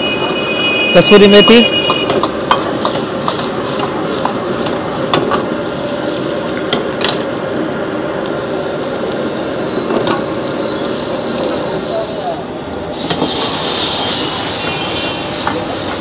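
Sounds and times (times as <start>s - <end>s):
gas burner running: 0.1s - 16.0s
food sizzling in hot oil: 2.2s - 12.2s, 12.9s - 16.0s.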